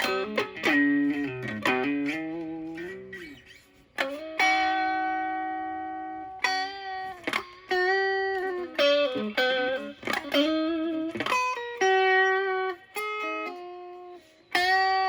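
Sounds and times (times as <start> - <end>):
fuzz electric guitar lead notes: 0.0 - 15.0.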